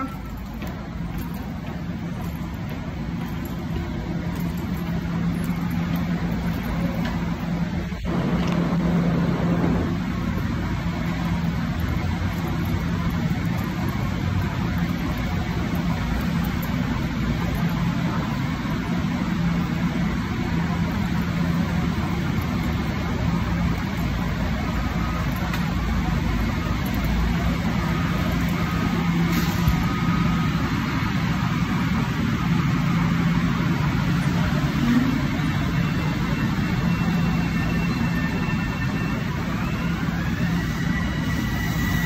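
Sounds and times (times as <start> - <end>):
low mechanical rumble: 0.0 - 38.2
droning hum: 0.0 - 42.0.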